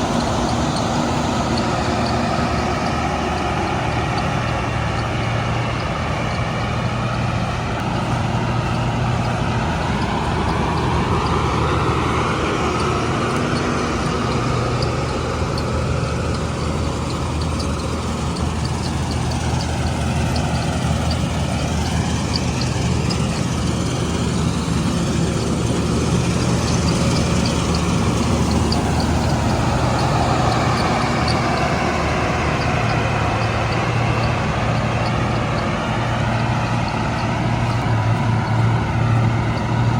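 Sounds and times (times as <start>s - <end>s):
combine harvester engine drone: 0.0s - 39.9s
threshing machinery whir: 0.0s - 39.9s.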